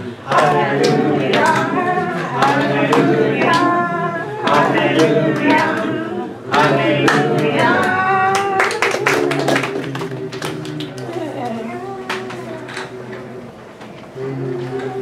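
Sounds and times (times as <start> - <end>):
voices singing a worship song: 0.0 - 15.0.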